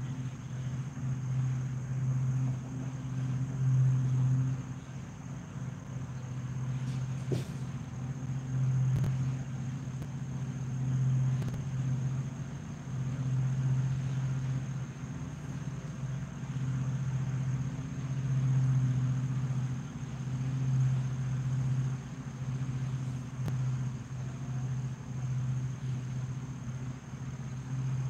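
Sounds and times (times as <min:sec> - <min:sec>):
faint high whine: 0:00.0 - 0:28.0
low machine hum: 0:00.0 - 0:28.0.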